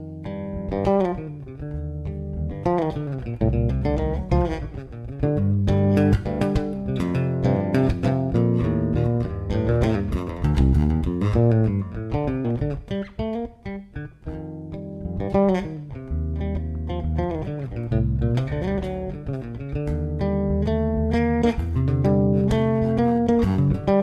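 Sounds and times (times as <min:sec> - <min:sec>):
plucked guitar music with bass: 0:00.0 - 0:24.0.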